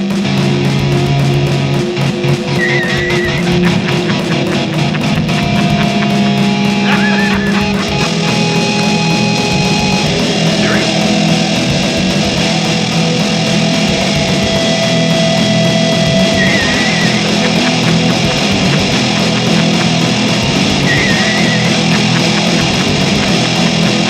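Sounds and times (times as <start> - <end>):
rock music with distorted guitar: 0.0 - 24.0.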